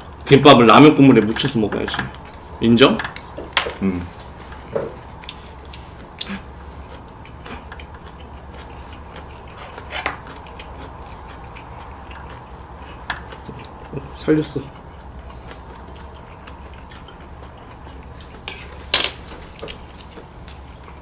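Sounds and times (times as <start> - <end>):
low steady hum: 0.0 - 21.0
chewing: 4.0 - 21.0.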